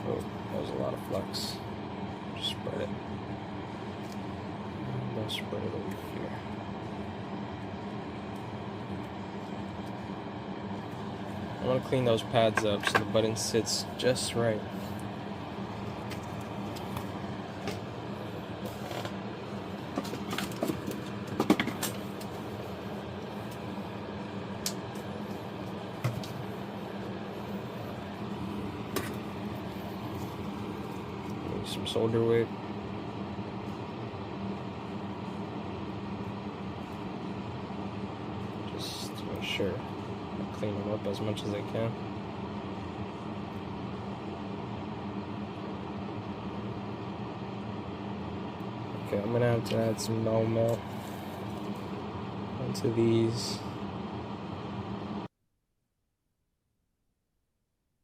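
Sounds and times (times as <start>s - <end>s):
electric fan whirring: 0.0s - 55.3s
low mechanical hum: 0.0s - 55.4s.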